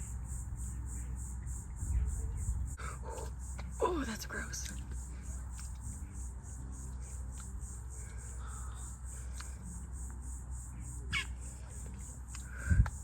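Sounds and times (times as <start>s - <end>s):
pulsing insect chorus: 0.0s - 13.0s.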